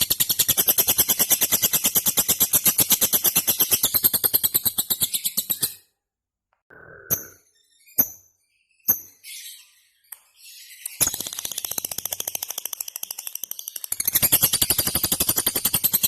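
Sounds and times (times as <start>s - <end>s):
lovebird chirping and trilling: 0.0s - 6.0s, 6.7s - 16.0s.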